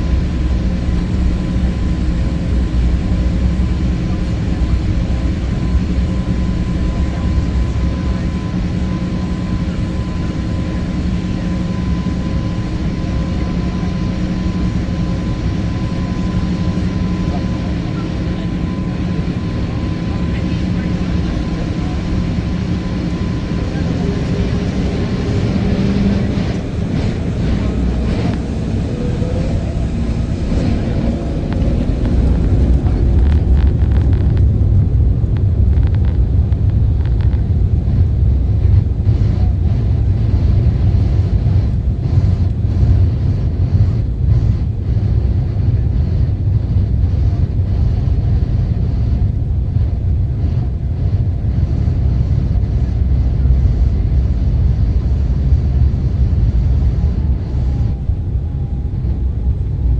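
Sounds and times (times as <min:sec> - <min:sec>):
jet engines at take-off thrust: 0:00.0 - 0:59.9.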